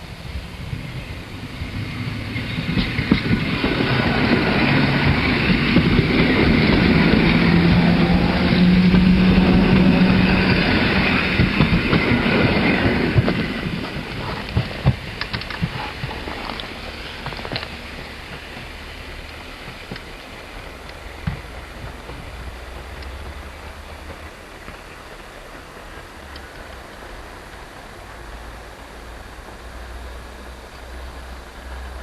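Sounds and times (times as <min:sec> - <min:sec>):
passenger train passing: 0:00.0 - 0:32.0
train wheels clicking: 0:00.0 - 0:32.0.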